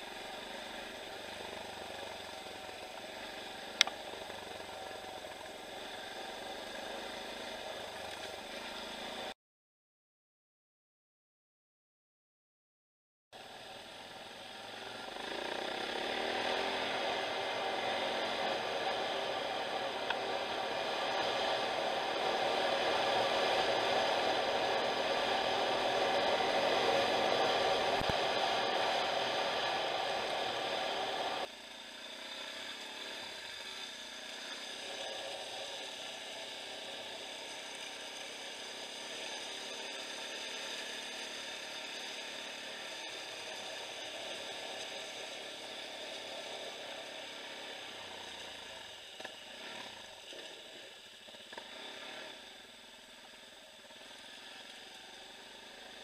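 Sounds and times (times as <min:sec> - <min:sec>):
dirt bike engine running: 0:00.0 - 0:09.3, 0:13.4 - 0:56.0.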